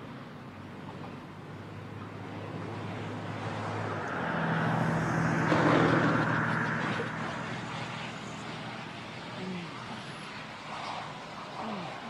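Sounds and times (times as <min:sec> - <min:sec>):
twin piston aircraft engines: 0:00.0 - 0:12.0
aircraft nose scraping runway: 0:02.0 - 0:12.0.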